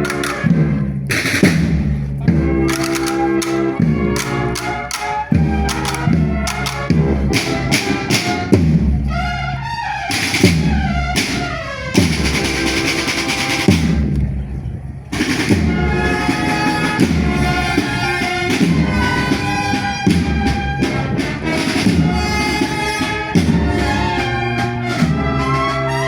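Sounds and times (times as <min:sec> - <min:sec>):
steady drum beat: 0:00.0 - 0:25.6
brass music: 0:00.0 - 0:26.0.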